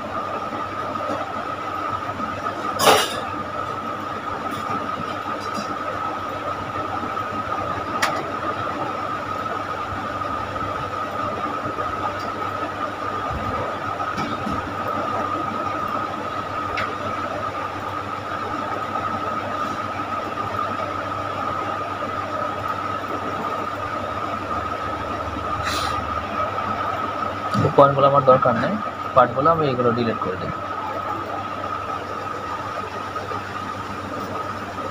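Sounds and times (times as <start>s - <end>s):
background hiss and hum: 0.0s - 34.9s
high whine: 0.0s - 34.9s.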